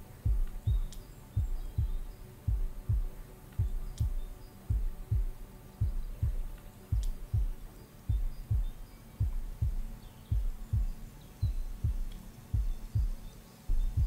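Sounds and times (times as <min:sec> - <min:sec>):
steady low hum: 0:00.0 - 0:14.0
heartbeat thumping: 0:00.2 - 0:14.0.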